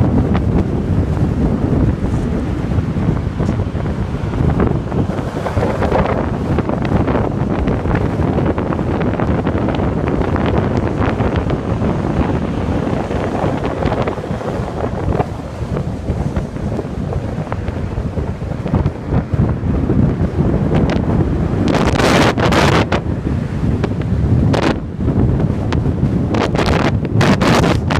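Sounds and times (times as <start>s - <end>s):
rough sea surf: 0.0s - 27.9s
strong wind buffeting microphone: 0.0s - 27.9s.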